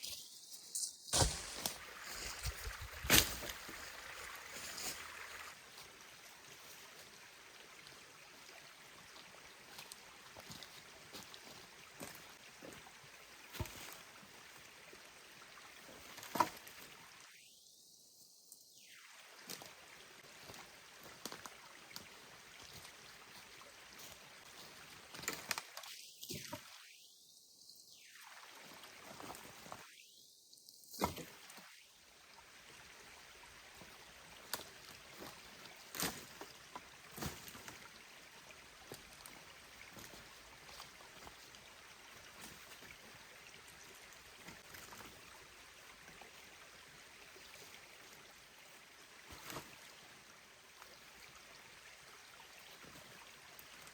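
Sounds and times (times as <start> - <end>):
mountain stream flowing: 1.1 - 17.4, 19.0 - 26.9, 27.7 - 30.0, 31.0 - 53.9.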